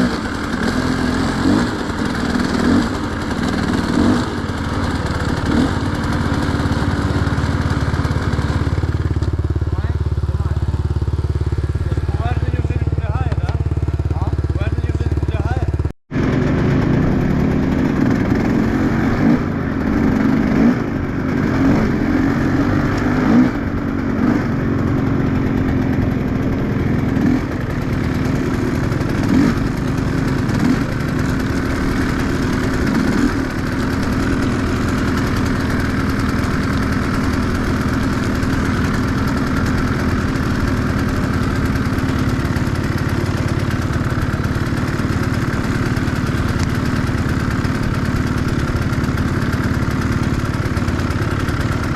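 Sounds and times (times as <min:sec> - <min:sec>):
motorcycle engine revving and idling: 0:00.0 - 0:51.9.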